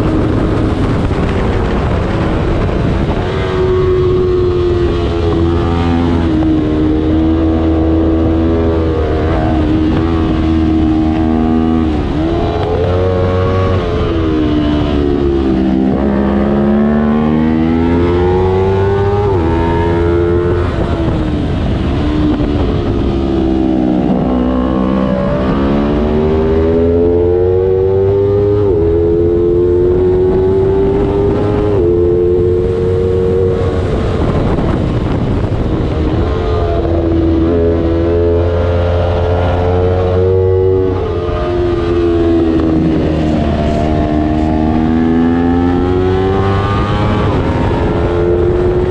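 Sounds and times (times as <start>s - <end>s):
motorcycle engine at full throttle: 0.0s - 48.9s.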